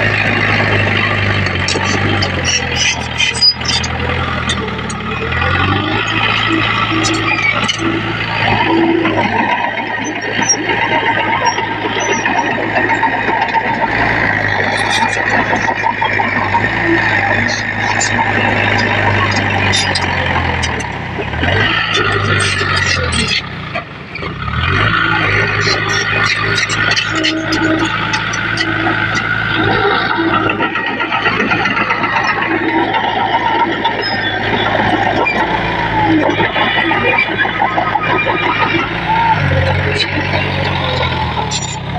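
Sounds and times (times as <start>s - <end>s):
heavy diesel machinery running: 0.0s - 41.9s.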